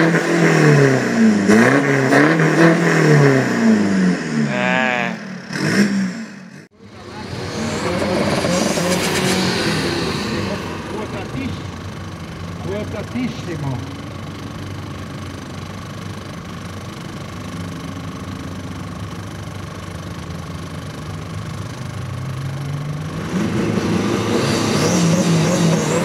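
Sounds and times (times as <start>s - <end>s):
diesel engines idling and revving: 0.0s - 26.0s.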